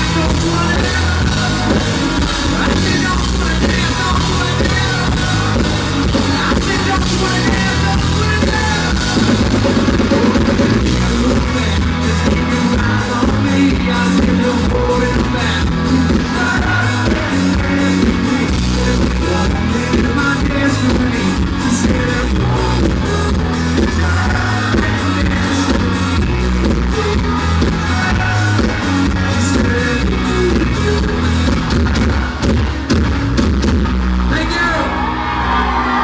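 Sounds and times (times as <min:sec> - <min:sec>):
person singing: 0:00.0 - 0:32.2
drum kit beat: 0:00.0 - 0:34.8
country band playing live: 0:00.0 - 0:36.0.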